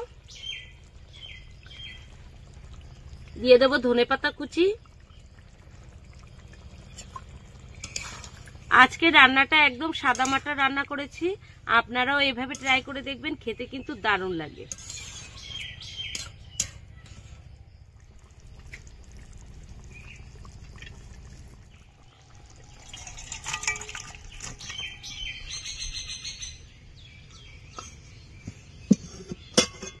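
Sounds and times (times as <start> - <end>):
small birds chirping: 0.0 - 3.6, 4.2 - 30.0
low steady hum: 0.0 - 30.0.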